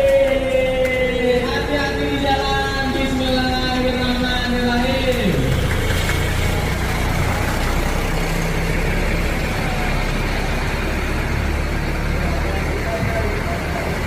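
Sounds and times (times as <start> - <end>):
heavy vehicle engine: 0.0 - 14.0
road noise: 0.0 - 14.0.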